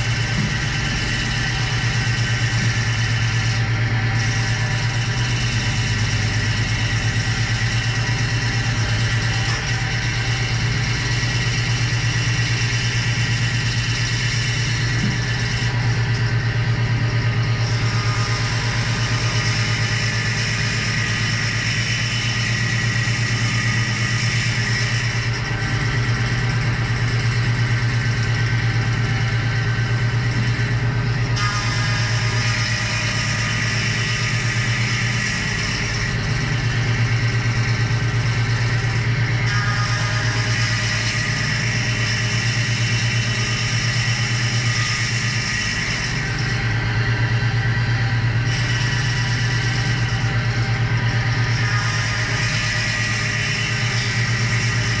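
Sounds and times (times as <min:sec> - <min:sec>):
machine motor humming: 0:00.0 - 0:55.0.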